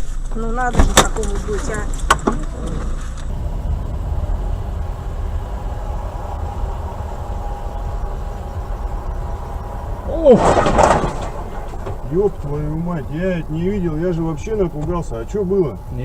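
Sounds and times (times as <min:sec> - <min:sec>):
car engine and tyre rumble: 0:00.0 - 0:16.0
loud burst with falling pitch: 0:02.4 - 0:16.0.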